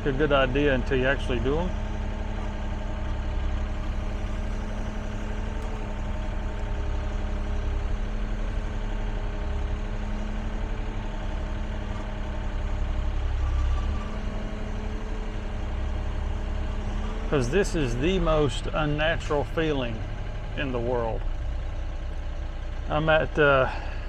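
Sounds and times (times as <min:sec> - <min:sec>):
diesel engine rumble: 0:00.0 - 0:24.0.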